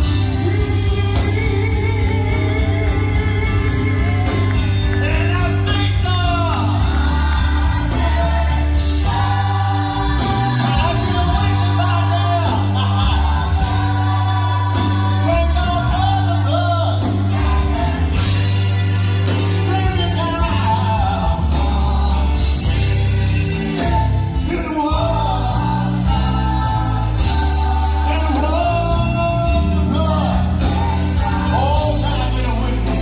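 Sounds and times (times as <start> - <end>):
band accompaniment: 0.0 - 33.0
choir singing gospel: 0.0 - 33.0
strong bass line: 0.0 - 33.0.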